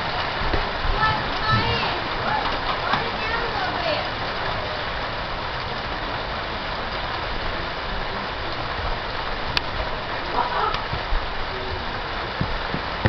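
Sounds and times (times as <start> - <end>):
steady rain falling on trees: 0.0 - 13.0.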